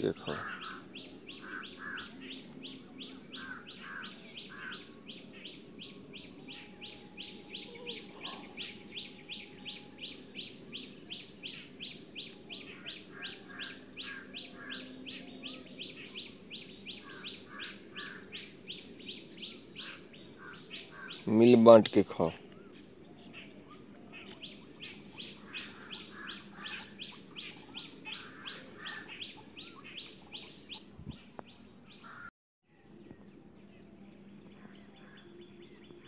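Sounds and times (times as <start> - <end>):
steady high hiss: 0.0 - 32.2
lower bird calls: 0.0 - 32.3.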